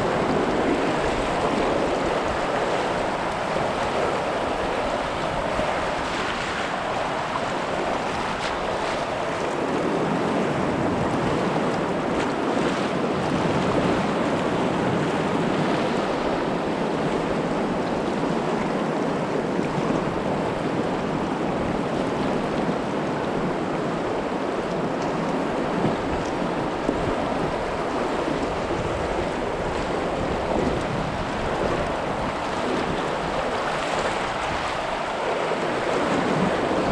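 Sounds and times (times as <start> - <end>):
river water rushing and splashing: 0.0 - 36.9.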